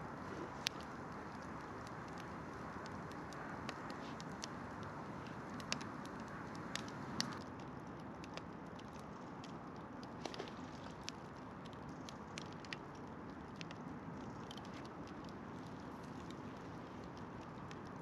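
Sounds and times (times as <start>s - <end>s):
campfire popping and snapping: 0.1s - 18.0s.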